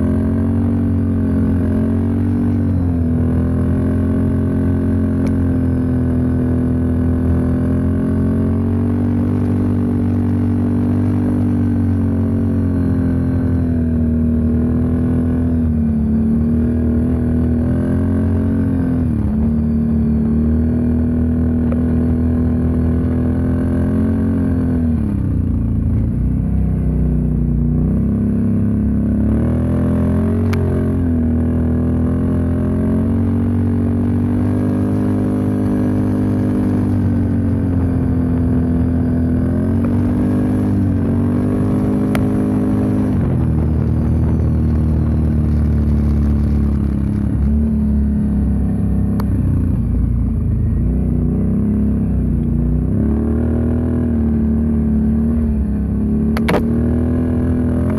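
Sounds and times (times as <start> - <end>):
atv engine revving: 0.0 - 57.9.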